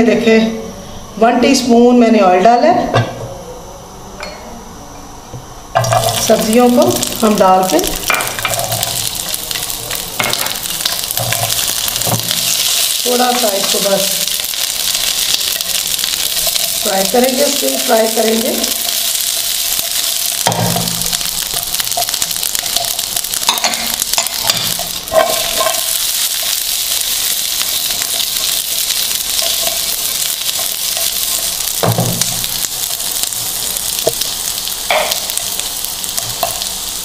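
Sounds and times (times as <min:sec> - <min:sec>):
vegetables sizzling in pan: 0:05.6 - 0:37.0.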